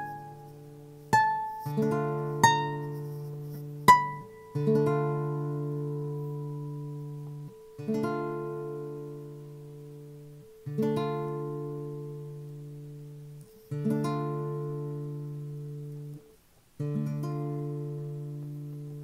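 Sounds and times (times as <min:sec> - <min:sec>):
classical guitar chord ringing: 0:00.0 - 0:19.0.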